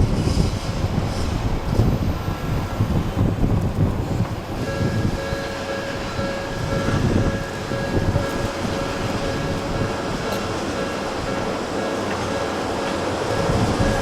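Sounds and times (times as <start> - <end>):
train wheels rumbling on rails: 0.0 - 14.0
steady whining tone: 2.5 - 14.0.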